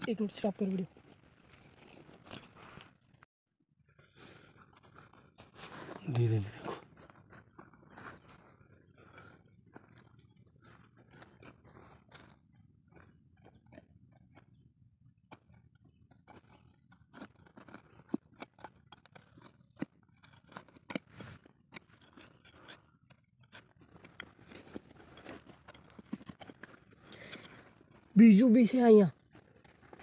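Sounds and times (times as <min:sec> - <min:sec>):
scraping through soil: 0:00.0 - 0:03.3, 0:04.0 - 0:30.0.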